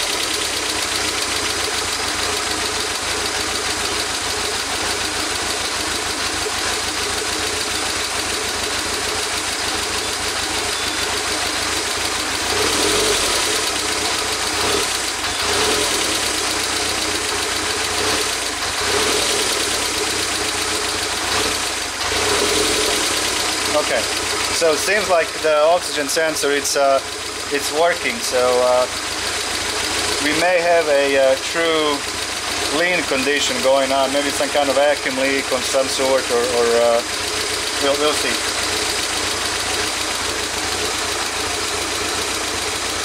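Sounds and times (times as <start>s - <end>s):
car engine idling with misfire: 0.0s - 43.0s.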